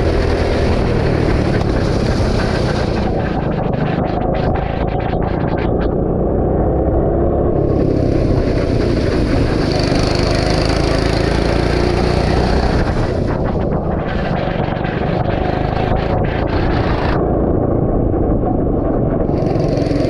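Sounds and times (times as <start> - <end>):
go-kart engine running: 0.0 - 20.0
wind rumble on microphone: 0.0 - 20.0.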